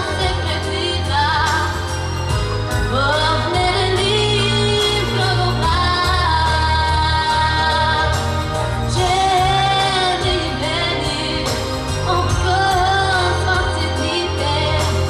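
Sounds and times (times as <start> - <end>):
backing track with bass line: 0.0 - 15.0
woman singing pop song: 0.0 - 15.0.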